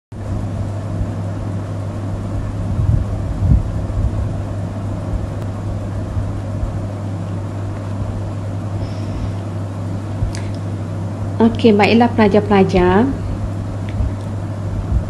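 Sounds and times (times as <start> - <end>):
low background hum and rumble: 0.1 - 15.0.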